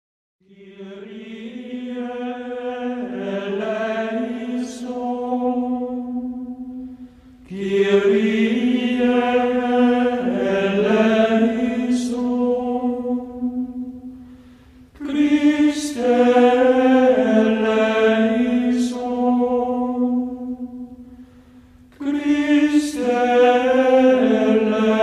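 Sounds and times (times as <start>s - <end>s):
wordless chanted singing: 0.4s - 25.0s.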